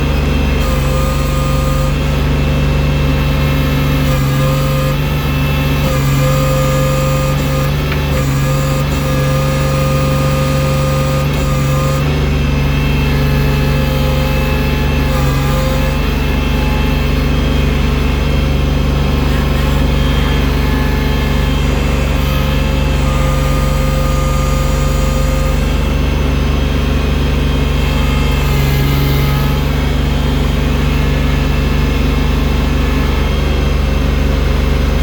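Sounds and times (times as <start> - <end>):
snow-clearing machine engine running: 0.0 - 35.0.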